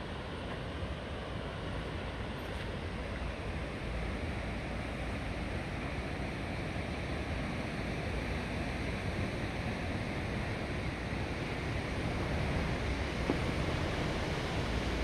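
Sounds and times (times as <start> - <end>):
river rushing roar: 0.0 - 15.0.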